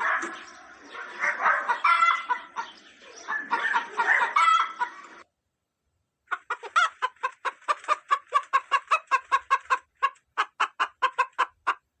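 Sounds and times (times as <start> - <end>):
hen clucking: 0.0 - 5.2, 6.3 - 11.9.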